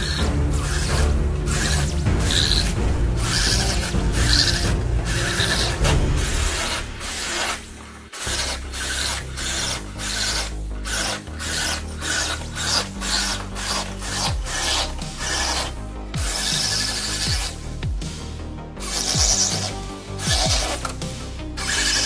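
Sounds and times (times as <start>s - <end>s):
abrasive rubbing on car bodywork: 0.0s - 17.7s.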